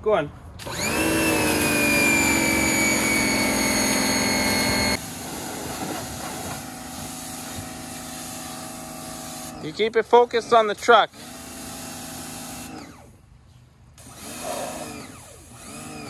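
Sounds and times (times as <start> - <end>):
pressure washer motor whining: 0.6 - 13.2, 14.0 - 16.0.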